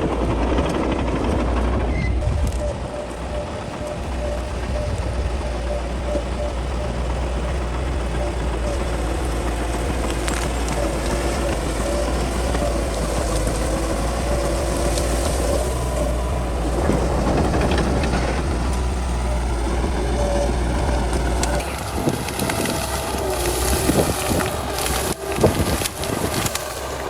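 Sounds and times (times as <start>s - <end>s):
bulldozer diesel engine running: 0.0s - 27.0s
clatter of tracks: 0.0s - 27.0s.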